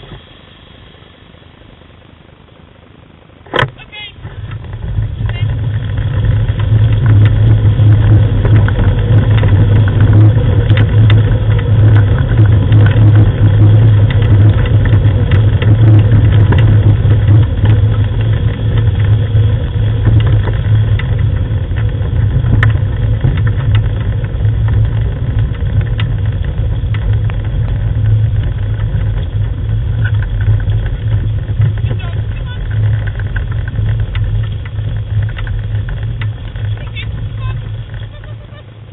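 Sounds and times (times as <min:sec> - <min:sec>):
rig rolling over gravel: 0:00.0 - 0:38.9
scattered clicks and rattles: 0:03.4 - 0:38.9.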